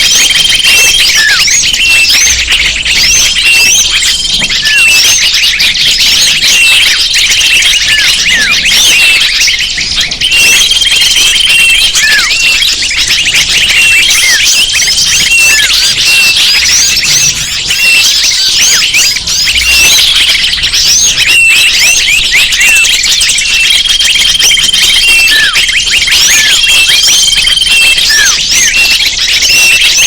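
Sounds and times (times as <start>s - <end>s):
chorus of small birds chirping: 0.0s - 30.0s.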